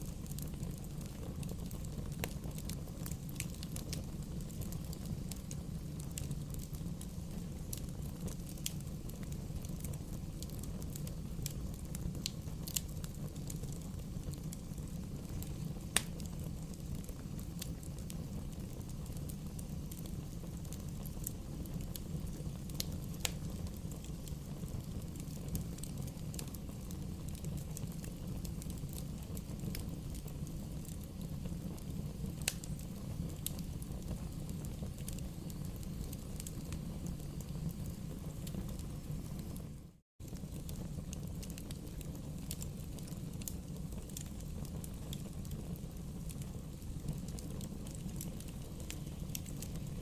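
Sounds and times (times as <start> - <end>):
bonfire flames rumbling: 0.0 - 50.0
fire pops and crackles: 0.0 - 50.0.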